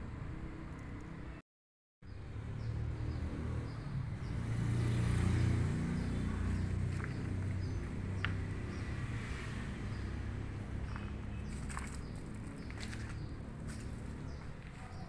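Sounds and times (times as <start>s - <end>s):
passing vehicle engine rumble: 2.1s - 15.0s.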